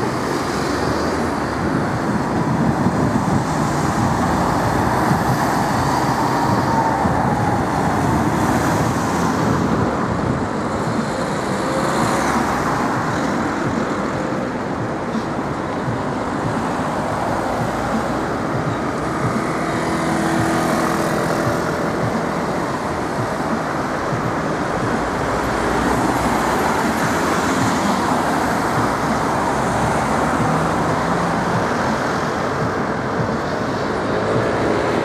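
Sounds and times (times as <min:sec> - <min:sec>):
car engines and tyre noise: 0:00.0 - 0:35.0.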